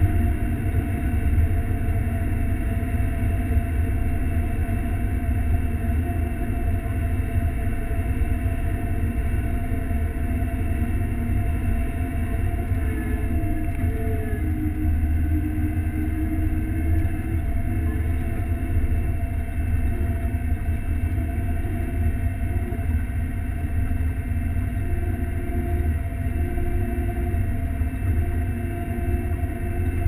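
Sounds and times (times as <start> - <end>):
combine engine low rumble: 0.0 - 30.0
faint steady whine: 0.0 - 30.0.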